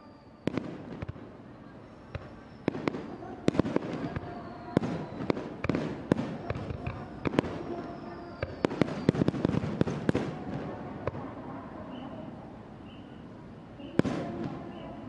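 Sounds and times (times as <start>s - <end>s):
faint gliding whistles: 0.0s - 10.2s, 11.6s - 15.0s
rumble of smaller reports: 0.0s - 15.0s.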